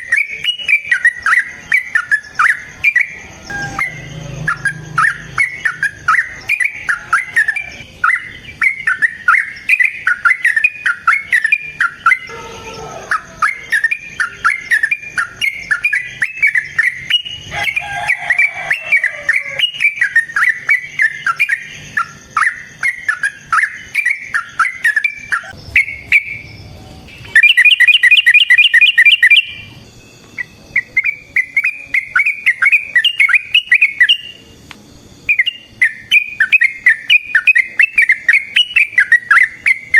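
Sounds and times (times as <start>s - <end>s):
bulbuls chattering song: 0.0s - 39.9s
loud rapid bird trill: 0.0s - 39.9s.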